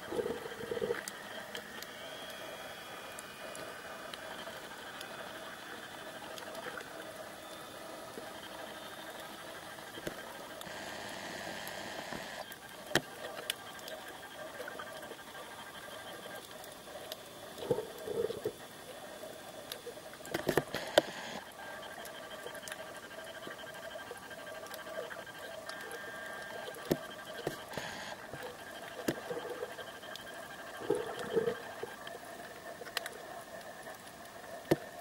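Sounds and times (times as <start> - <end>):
faint hum: 0.0 - 35.0
sharp underwater clicks and crackles: 0.0 - 35.0.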